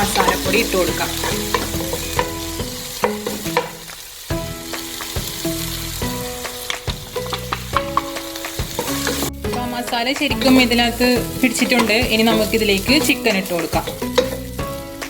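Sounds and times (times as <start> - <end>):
spatula scraping and knocking pan: 0.0 - 4.0, 4.8 - 15.0
food sizzling in oil: 0.0 - 15.0.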